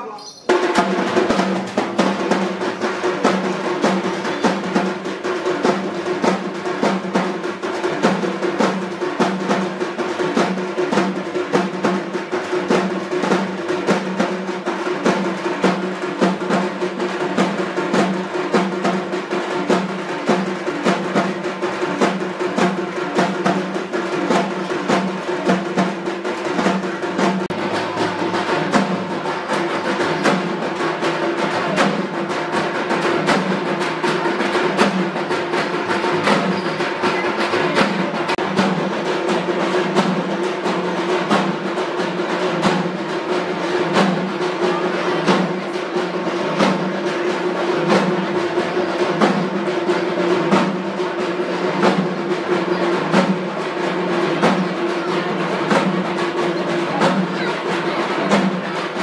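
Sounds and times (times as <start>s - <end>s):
fast drum strokes: 0.0s - 59.0s.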